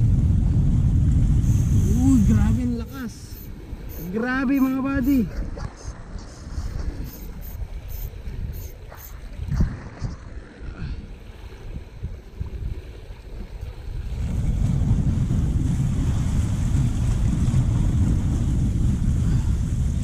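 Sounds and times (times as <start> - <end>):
waves washing against rocks: 0.0 - 20.0
wind buffeting microphone: 0.0 - 20.0.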